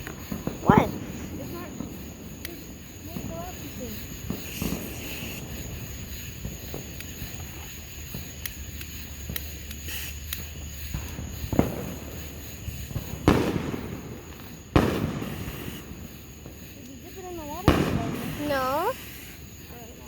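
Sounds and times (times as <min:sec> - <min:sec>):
fireworks cracks and bangs: 0:00.0 - 0:20.0.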